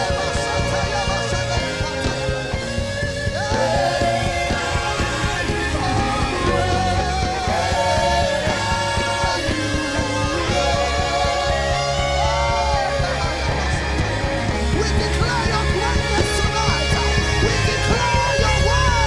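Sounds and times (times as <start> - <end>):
band playing gospel music: 0.0 - 19.0
person singing: 3.3 - 19.0.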